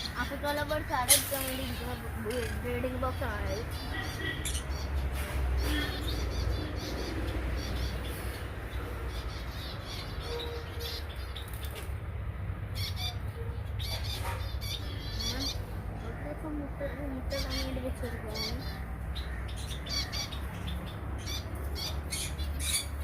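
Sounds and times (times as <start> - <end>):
birds chirping and squawking: 0.0 - 23.0.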